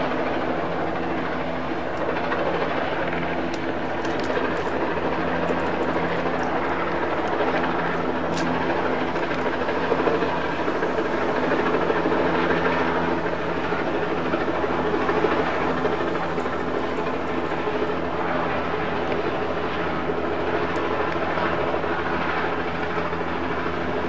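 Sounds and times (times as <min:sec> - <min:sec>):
helicopter rotor and engine drone: 0:00.0 - 0:24.0.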